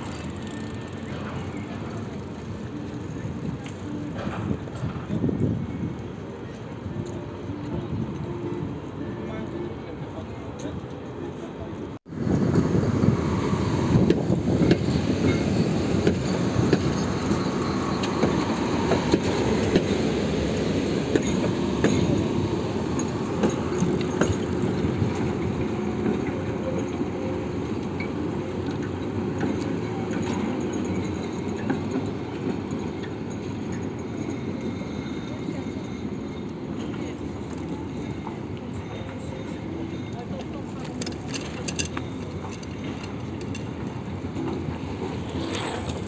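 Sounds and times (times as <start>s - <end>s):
wheels clacking over rail joints: 0.0s - 9.0s, 13.9s - 46.0s
tram wheel rumble: 0.0s - 46.0s.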